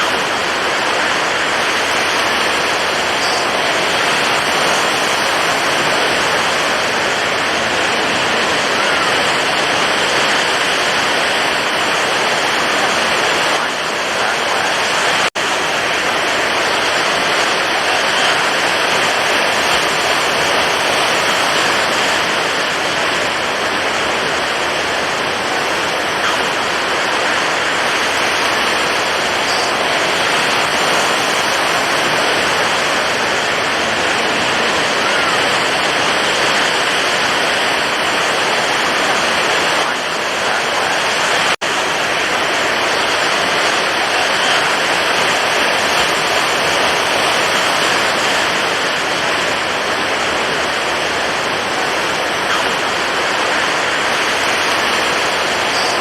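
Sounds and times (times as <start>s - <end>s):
ocean waves crashing: 0.0s - 56.0s.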